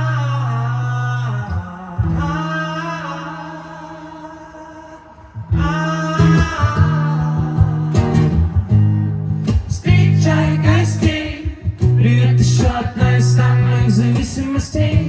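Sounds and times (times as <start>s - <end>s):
acoustic guitar strumming: 0.0s - 15.0s
man singing wordlessly: 0.0s - 15.0s.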